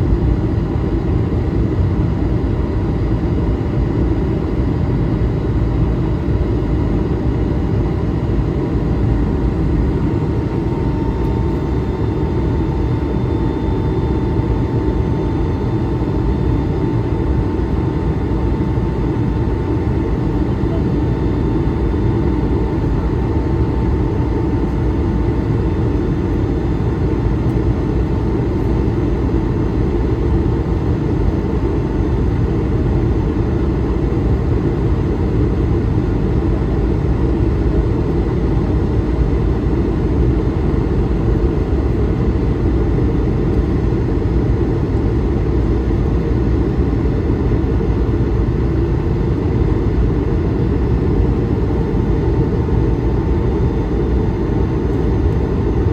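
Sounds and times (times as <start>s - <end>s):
jet engine deep rumble: 0.0s - 55.9s.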